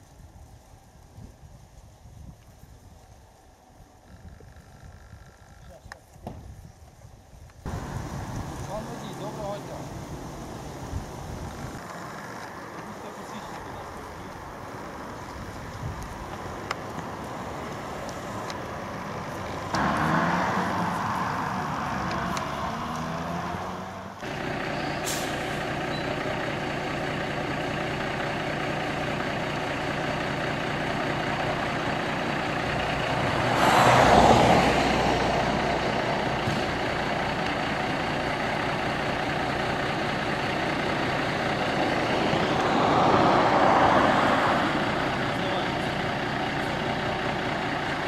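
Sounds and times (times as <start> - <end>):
diesel truck engine droning: 7.7 - 48.0.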